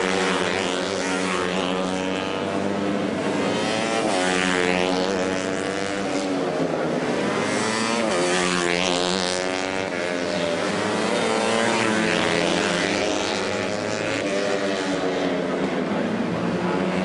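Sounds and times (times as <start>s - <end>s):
racing motorcycle engines revving: 0.0s - 17.0s.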